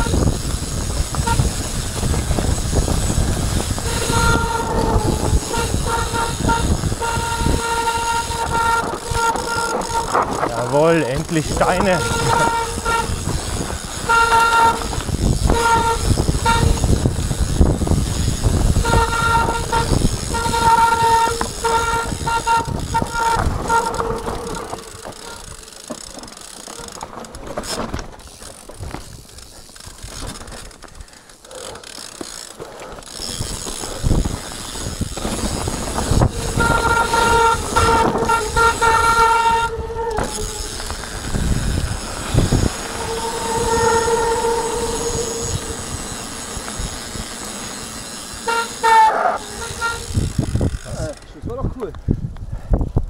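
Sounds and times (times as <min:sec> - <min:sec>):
disc brakes honking: 0:00.0 - 0:27.2, 0:33.2 - 0:50.8
bike tyres clattering on rocks: 0:00.0 - 0:43.2.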